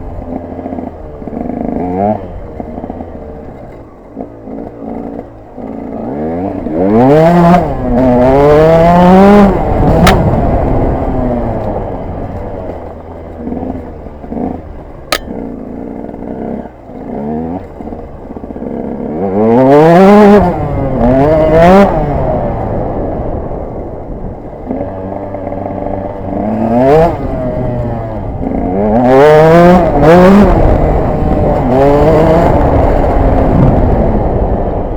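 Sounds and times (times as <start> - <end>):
two-stroke engine accelerating: 0.0 - 34.9.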